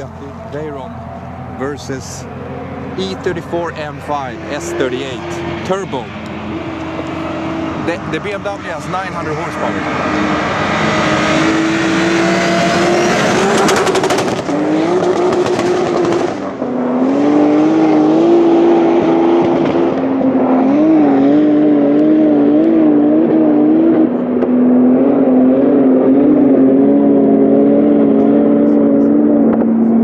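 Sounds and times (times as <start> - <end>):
car engines revving at full throttle: 0.0 - 30.0.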